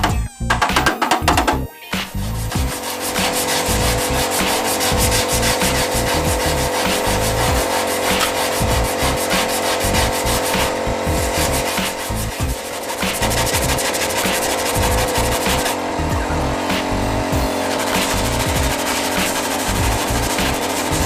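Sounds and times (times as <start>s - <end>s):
sandpaper rubbing on metal: 2.1s - 15.8s, 16.7s - 21.0s.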